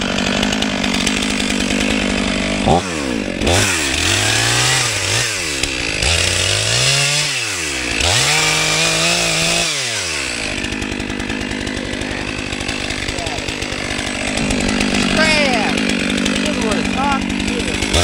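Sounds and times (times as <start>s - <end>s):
chainsaw cutting at full throttle: 0.0s - 18.0s
chainsaw idling: 0.0s - 18.0s.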